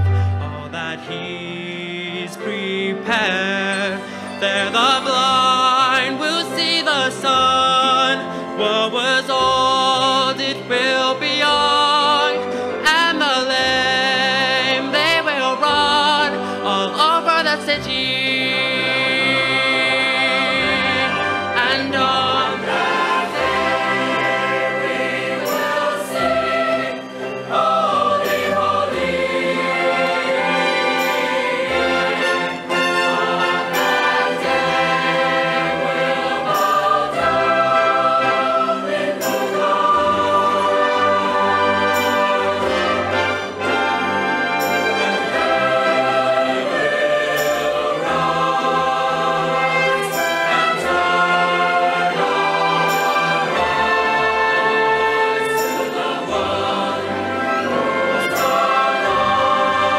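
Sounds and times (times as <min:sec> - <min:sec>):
mixed choir singing: 0:00.0 - 0:59.9
orchestral strings: 0:00.0 - 0:59.9.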